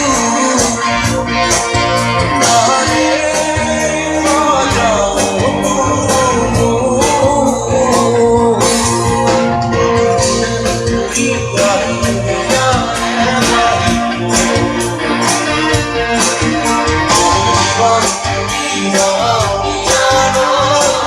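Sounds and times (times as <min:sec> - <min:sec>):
live band music: 0:00.0 - 0:21.0
person singing: 0:00.0 - 0:21.0.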